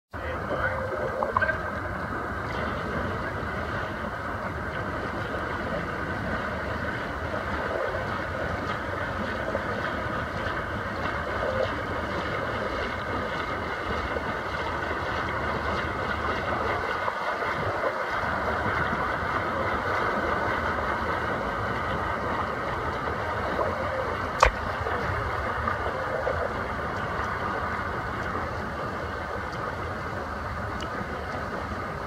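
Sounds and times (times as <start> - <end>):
water splashing from swimmers: 1.0 - 31.6.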